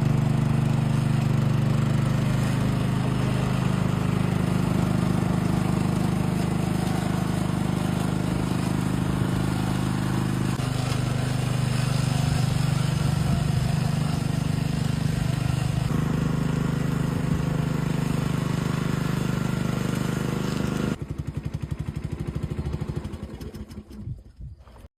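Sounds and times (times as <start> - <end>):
grass cutter engine running: 0.0 - 24.0.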